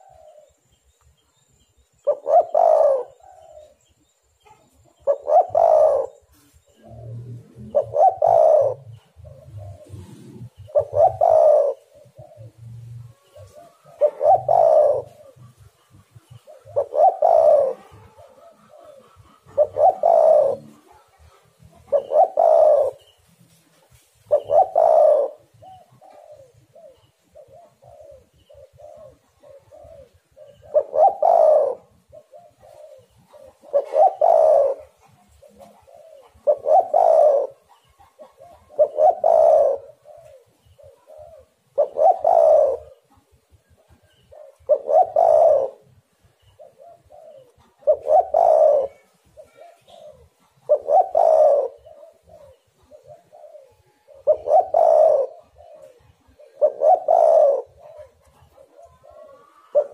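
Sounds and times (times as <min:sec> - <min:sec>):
dove cooing: 0:00.0 - 0:00.8, 0:02.0 - 0:59.9.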